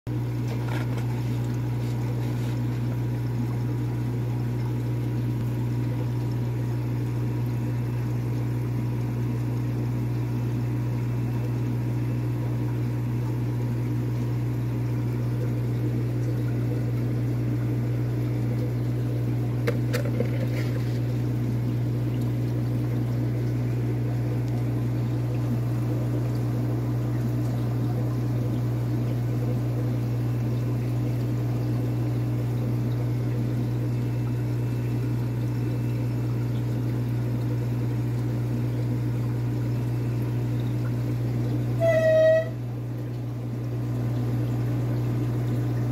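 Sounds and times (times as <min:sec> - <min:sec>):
aquarium pumps humming: 0:00.1 - 0:45.9
water running: 0:00.1 - 0:45.9.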